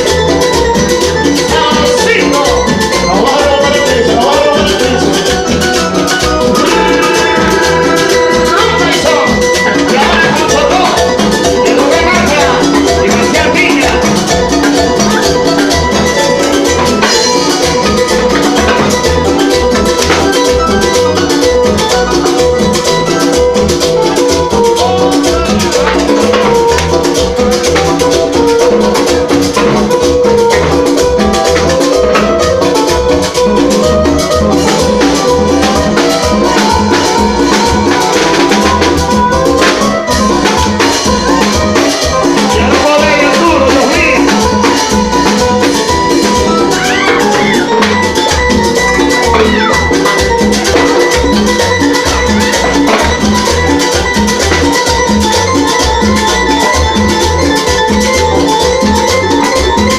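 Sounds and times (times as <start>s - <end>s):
latin band playing instrumental: 0.0s - 59.9s.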